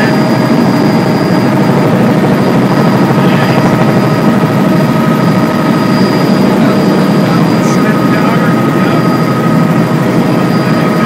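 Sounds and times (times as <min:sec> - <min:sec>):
helicopter engine and rotor drone: 0:00.0 - 0:11.0
high steady tones: 0:00.0 - 0:11.0.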